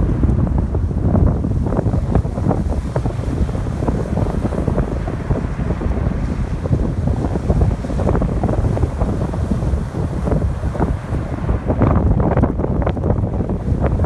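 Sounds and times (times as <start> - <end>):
ocean waves on shore: 0.0 - 14.0
wind buffeting microphone: 0.0 - 14.0.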